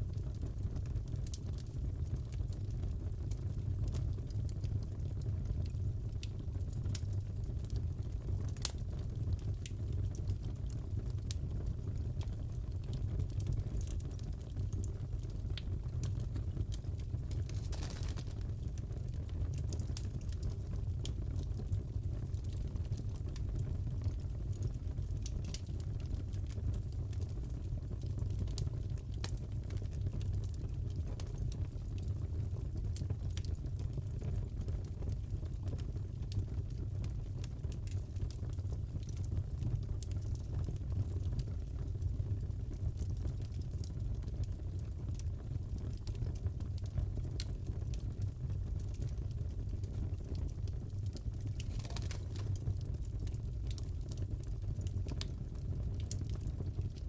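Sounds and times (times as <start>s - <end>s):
fire crackling and popping: 0.0s - 57.0s
fire rumbling: 0.0s - 57.0s.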